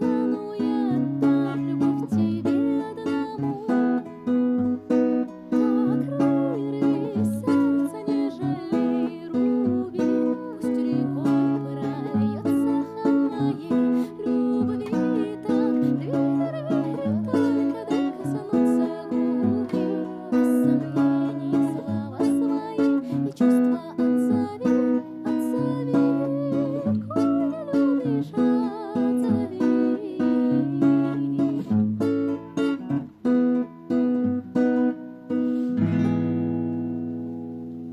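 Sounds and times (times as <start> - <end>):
person singing: 0.0 - 4.4, 5.1 - 31.9
acoustic guitar strumming: 0.0 - 37.9.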